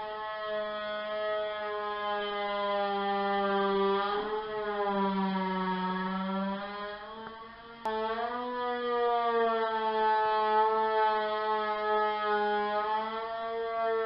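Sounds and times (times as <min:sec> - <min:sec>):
electric saw motor whining: 0:00.0 - 0:13.8.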